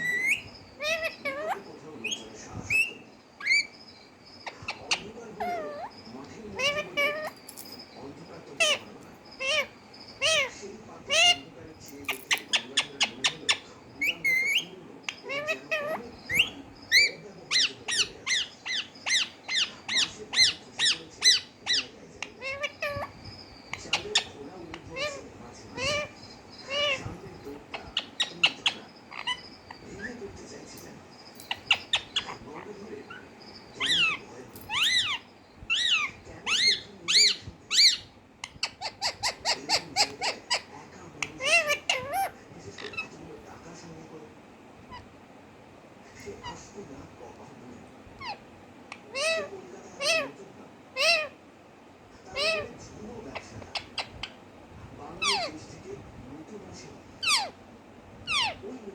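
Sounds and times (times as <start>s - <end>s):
parrot squawking: 0.0s - 7.8s, 8.5s - 30.2s, 31.4s - 40.7s, 41.3s - 43.2s, 48.2s - 51.4s, 52.3s - 54.4s, 55.2s - 55.6s, 57.2s - 57.6s, 58.2s - 58.6s
parrot chirping: 0.0s - 43.4s, 46.1s - 47.3s, 47.9s - 51.5s, 52.3s - 54.6s, 55.2s - 55.8s, 57.0s - 58.6s.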